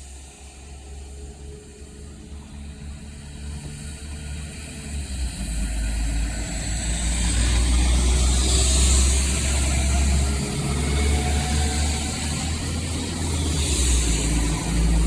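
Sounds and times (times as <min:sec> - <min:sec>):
diesel train engine rumble: 0:00.0 - 0:15.0
wheel and rail noise: 0:00.0 - 0:15.0.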